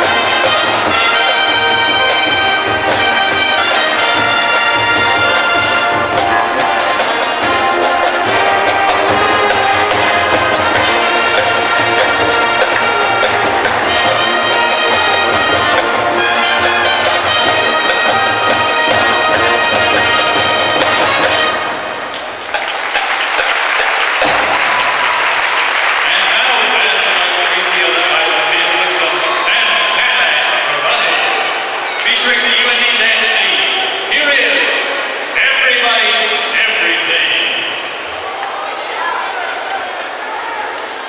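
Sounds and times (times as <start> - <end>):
marching band playing pop tune: 0.0 - 38.0
crowd applause: 0.0 - 41.0.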